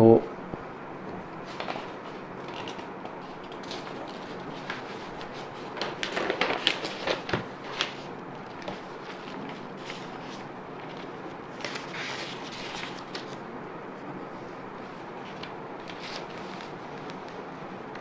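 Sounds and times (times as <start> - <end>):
paper page rustling: 1.4 - 13.5, 14.8 - 17.5.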